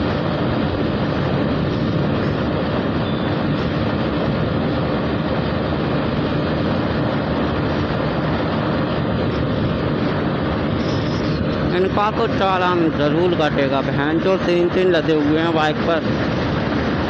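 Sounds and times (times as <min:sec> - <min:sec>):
motorcycle engine running: 0:00.0 - 0:14.0
wind rushing over microphone: 0:00.0 - 0:17.0.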